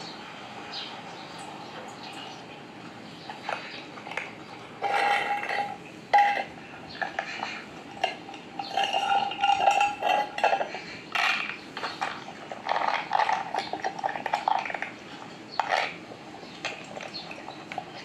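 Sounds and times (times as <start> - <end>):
metal food bowl clinking: 1.4 - 18.0.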